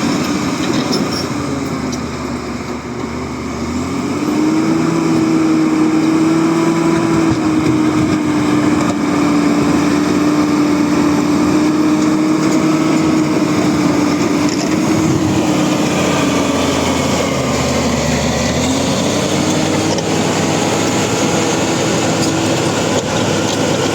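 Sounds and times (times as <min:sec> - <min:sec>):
bulldozer diesel engine running: 0:00.0 - 0:23.9.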